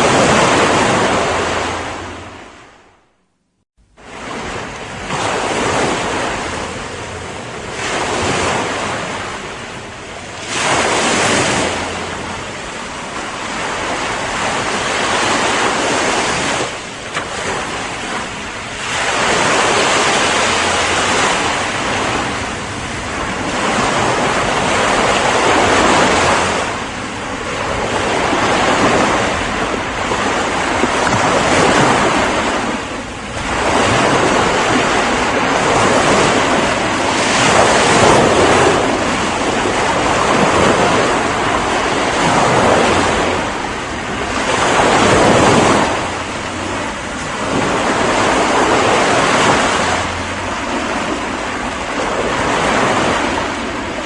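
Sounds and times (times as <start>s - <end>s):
ocean waves breaking on shore: 0.0s - 3.1s, 3.8s - 54.0s.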